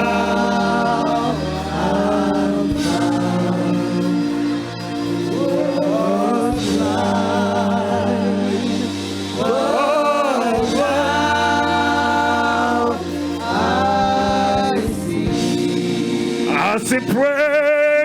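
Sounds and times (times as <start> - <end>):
gospel worship singing: 0.0 - 18.0
sustained chords: 0.0 - 18.0.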